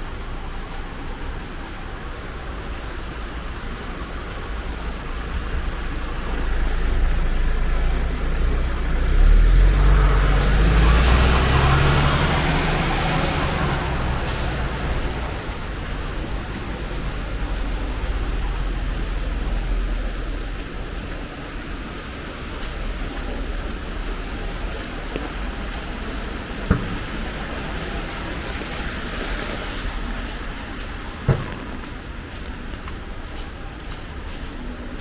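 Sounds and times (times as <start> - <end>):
heavy vehicle passing on wet road: 0.0 - 35.0
rain hissing: 0.0 - 35.0.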